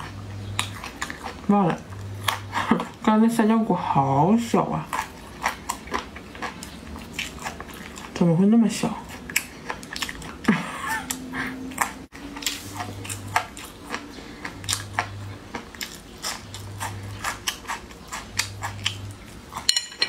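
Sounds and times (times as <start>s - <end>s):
person chewing with wet smacks: 0.0s - 3.1s, 4.8s - 8.2s, 8.9s - 19.7s.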